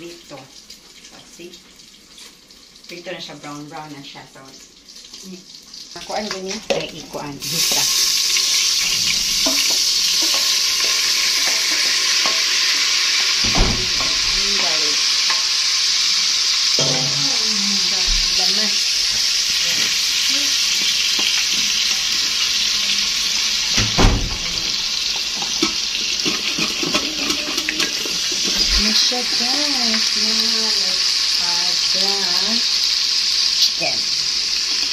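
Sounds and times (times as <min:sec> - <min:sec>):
garlic sizzling in hot oil: 0:00.0 - 0:34.9.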